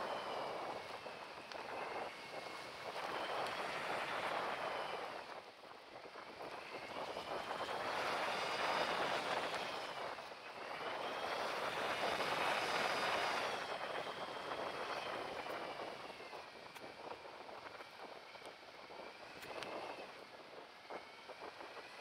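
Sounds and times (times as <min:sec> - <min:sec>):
bicycle tyres rolling on dirt: 0:00.0 - 0:22.0.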